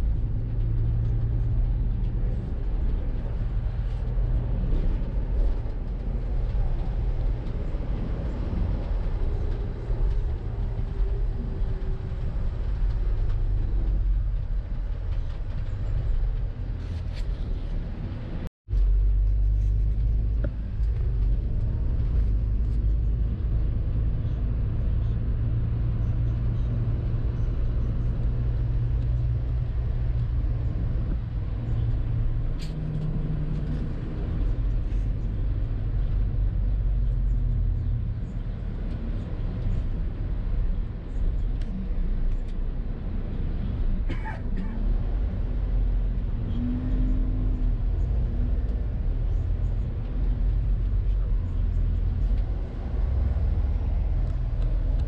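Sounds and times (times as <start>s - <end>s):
engine low rumble: 0.0s - 55.0s.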